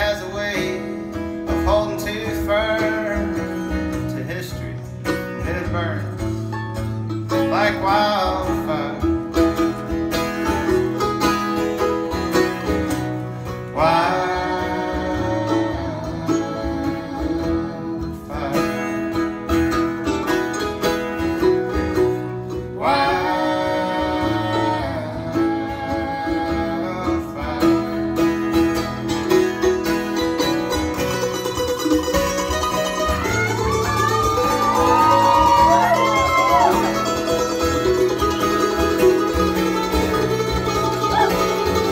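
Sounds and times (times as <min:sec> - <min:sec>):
acoustic guitar: 0:00.0 - 0:41.9
mandolin: 0:00.0 - 0:41.9.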